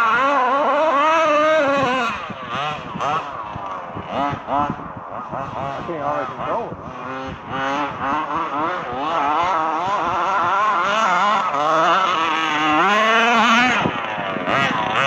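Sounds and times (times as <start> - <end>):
small two-stroke engine revving: 0.0 - 15.0.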